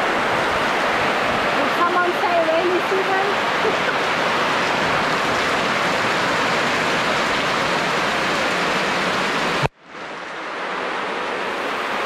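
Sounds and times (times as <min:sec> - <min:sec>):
heavy rain pouring off a roof: 0:00.0 - 0:12.0.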